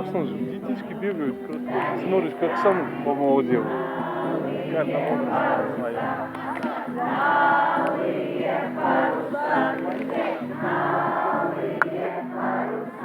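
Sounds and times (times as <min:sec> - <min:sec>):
children singing in chorus: 0:00.0 - 0:13.0.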